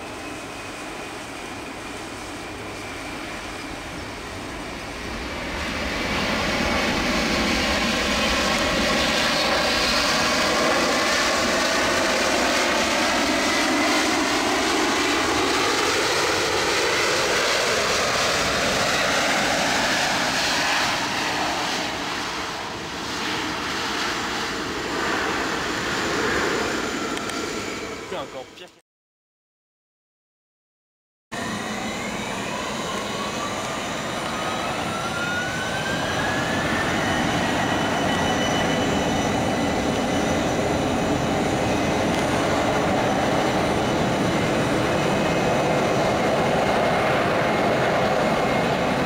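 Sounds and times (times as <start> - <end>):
jet engines roaring: 0.0 - 28.7, 31.4 - 49.0.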